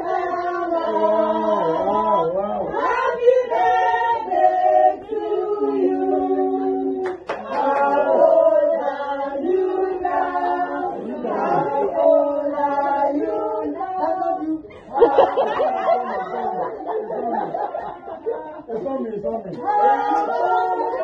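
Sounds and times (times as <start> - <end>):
group singing unaccompanied: 0.0 - 21.0.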